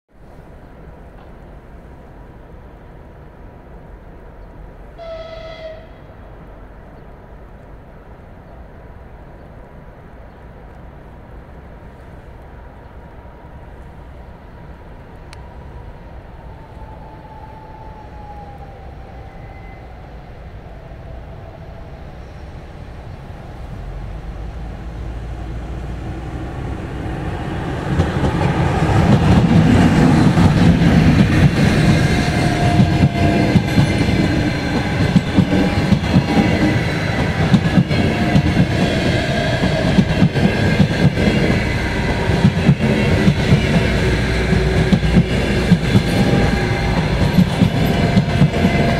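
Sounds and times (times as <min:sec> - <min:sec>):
electric locomotive passing: 0:00.2 - 0:48.9.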